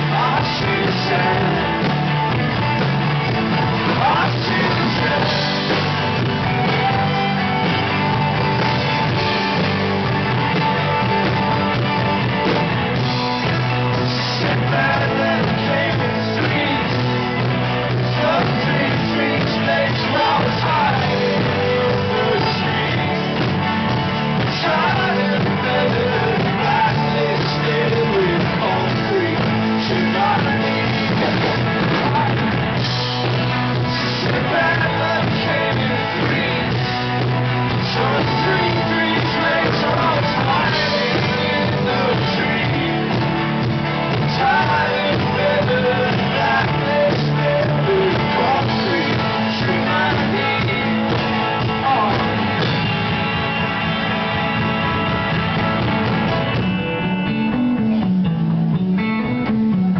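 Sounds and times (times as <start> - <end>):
person singing: 0.0 - 2.3, 3.6 - 9.9, 13.3 - 52.9
live rock band playing: 0.0 - 59.9.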